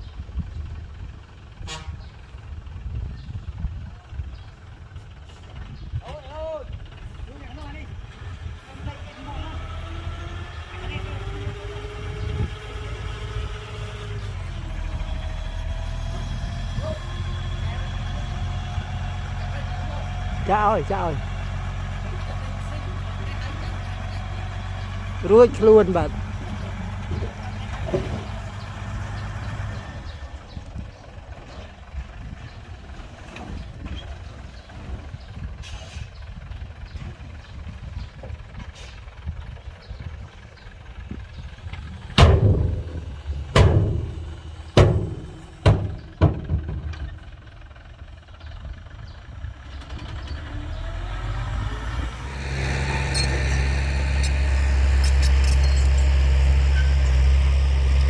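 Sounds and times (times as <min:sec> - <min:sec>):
diesel engine rumbling: 0:00.0 - 0:58.0
faint engine whine: 0:00.0 - 0:58.0.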